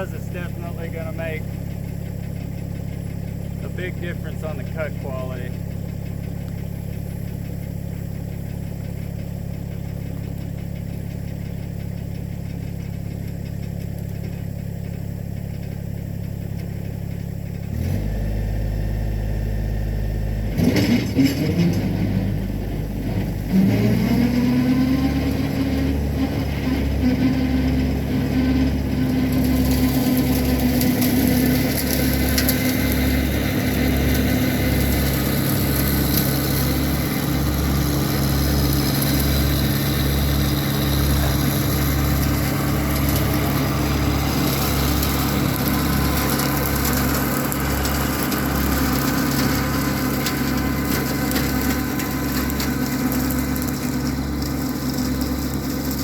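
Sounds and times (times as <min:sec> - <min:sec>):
tractor diesel engine throbbing: 0:00.0 - 0:56.0.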